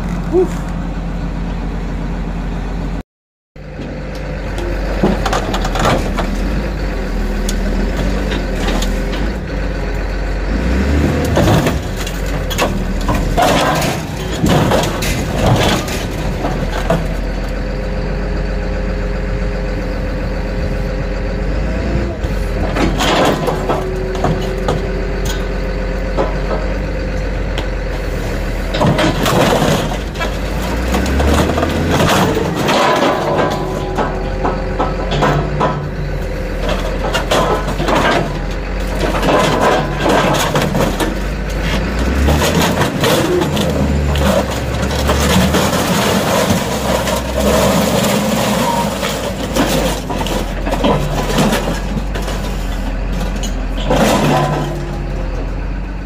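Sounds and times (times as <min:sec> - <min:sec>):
diesel engine running: 0:00.0 - 0:03.0, 0:03.6 - 0:56.0
metal crunching and clanging: 0:03.8 - 0:18.4, 0:22.0 - 0:56.0.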